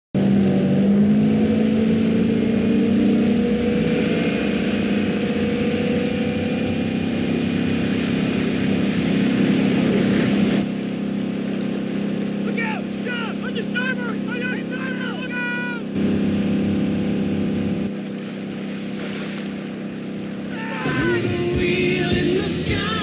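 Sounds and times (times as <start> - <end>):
boat engines droning: 0.2 - 23.0
water rushing along hull: 0.2 - 23.0.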